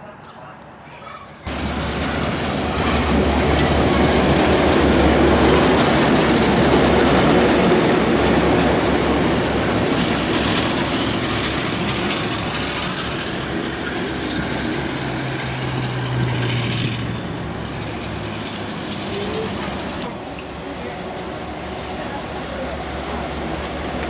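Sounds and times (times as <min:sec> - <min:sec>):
diesel train rumbling on rails: 0:01.5 - 0:24.0.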